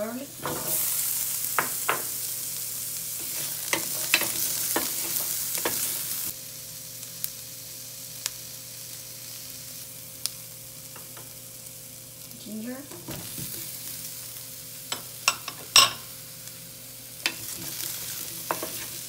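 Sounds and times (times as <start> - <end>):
onions sizzling in a pan: 0.0 - 19.0
sharp ticks of frying oil: 0.0 - 19.0.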